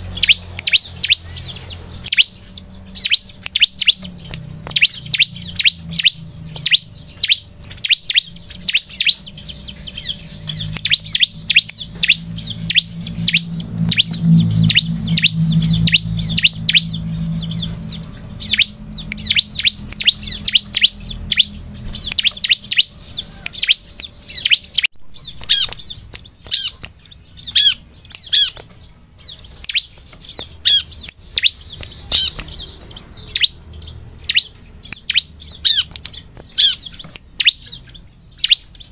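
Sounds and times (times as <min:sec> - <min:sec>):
bird chirping rapidly: 0:00.0 - 0:38.9.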